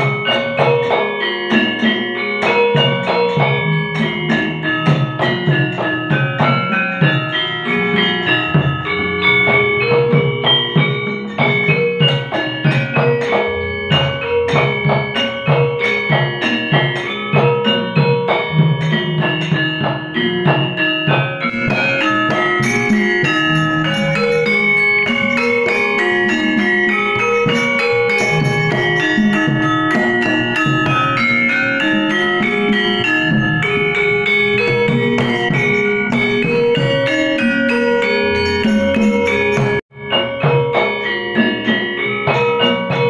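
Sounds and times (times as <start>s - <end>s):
gamelan ensemble playing: 0.0s - 43.0s
metallophones struck with mallets: 0.0s - 43.0s
sharp knocks and drum strokes: 0.0s - 43.0s.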